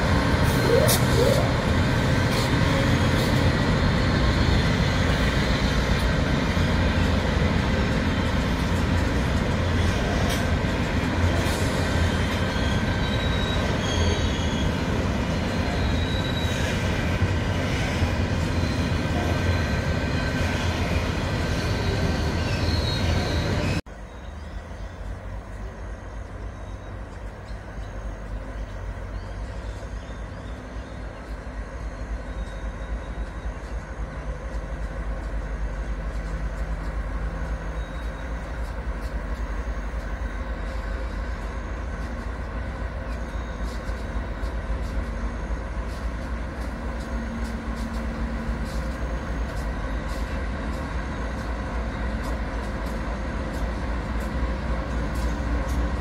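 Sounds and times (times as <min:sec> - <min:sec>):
diesel locomotive engines rumbling: 0:00.0 - 0:56.0.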